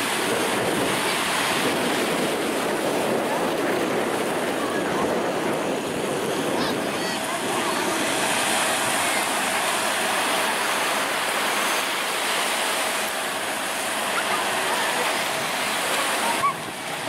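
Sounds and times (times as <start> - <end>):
surf washing at shoreline: 0.0 - 17.0.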